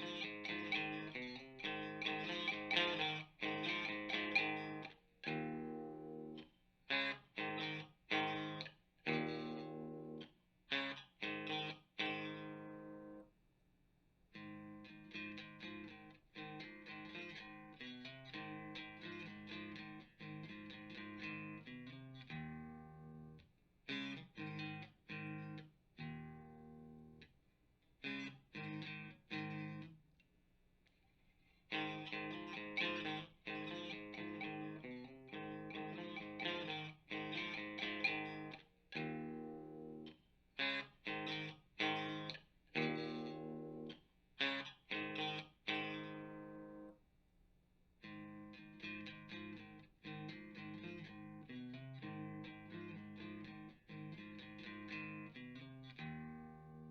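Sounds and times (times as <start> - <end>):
electric guitar through an amp: 0.0 - 13.3, 14.4 - 27.2, 28.0 - 29.9, 31.7 - 47.0, 48.0 - 56.9.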